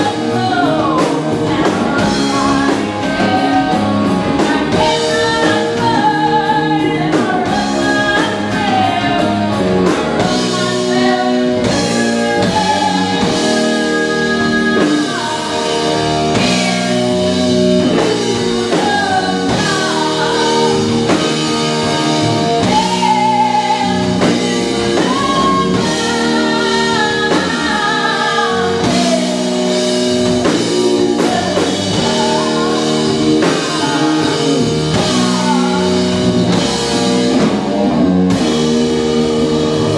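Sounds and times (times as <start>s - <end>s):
drum kit: 0.0s - 39.9s
electric guitars: 0.0s - 39.9s
woman singing lead: 0.0s - 39.9s.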